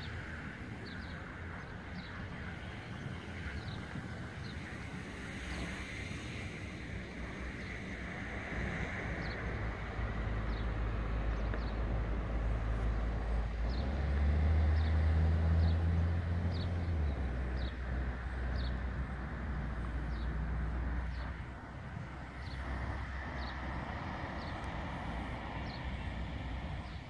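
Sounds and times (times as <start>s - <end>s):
traffic noise: 0.0s - 27.0s
vehicle engine rumble: 0.0s - 27.0s.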